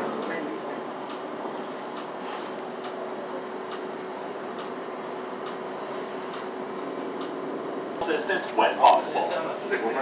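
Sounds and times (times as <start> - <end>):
bus engine and road noise: 0.0 - 10.0.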